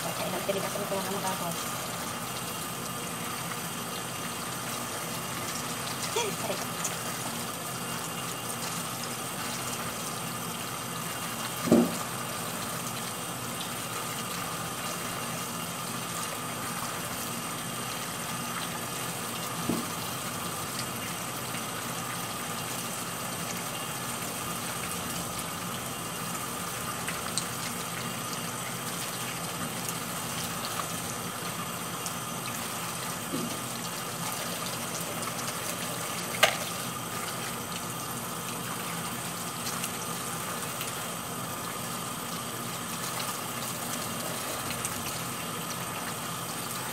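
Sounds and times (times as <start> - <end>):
faucet running water: 0.0 - 46.9.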